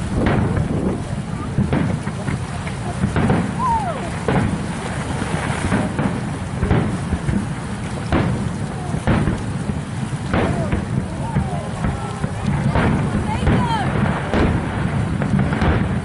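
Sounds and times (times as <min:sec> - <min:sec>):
fireworks booming: 0:00.0 - 0:16.0
low background rumble: 0:00.0 - 0:16.0.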